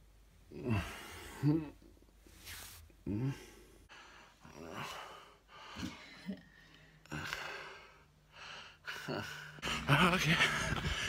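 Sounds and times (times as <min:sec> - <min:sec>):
man breathing and sighing: 0:00.5 - 0:11.0.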